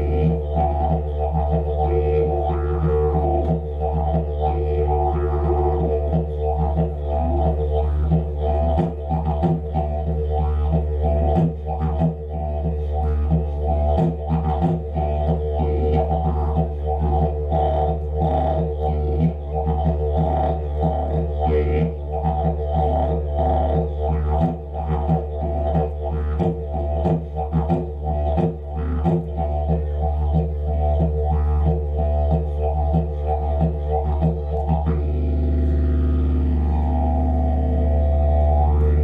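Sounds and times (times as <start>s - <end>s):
didgeridoo drone: 0.0s - 39.0s.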